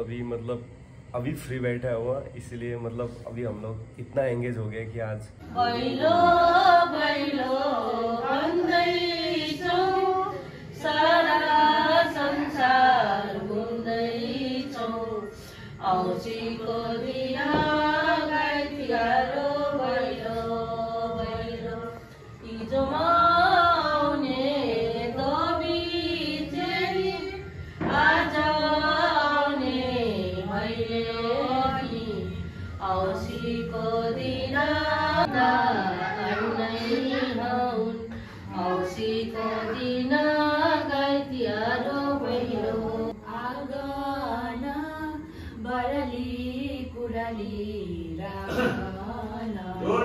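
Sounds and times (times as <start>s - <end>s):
women singing folk song: 5.4s - 50.0s.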